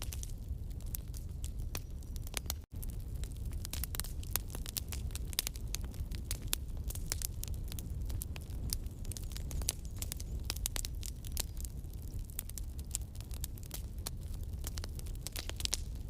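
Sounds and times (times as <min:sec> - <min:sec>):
burning wood crackling: 0:00.0 - 0:16.0
campfire flames rumbling: 0:00.0 - 0:16.0.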